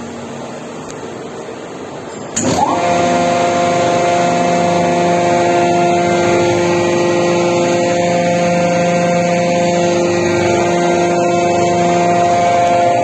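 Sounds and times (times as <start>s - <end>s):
hydraulic pump whining: 1.8s - 13.0s.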